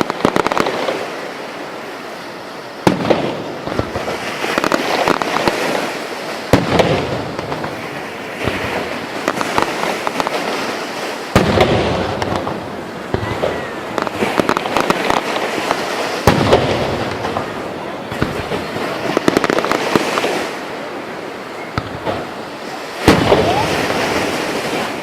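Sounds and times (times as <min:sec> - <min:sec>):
fireworks crackling and popping: 0:00.0 - 0:25.0
loud firework booms: 0:02.8 - 0:25.0.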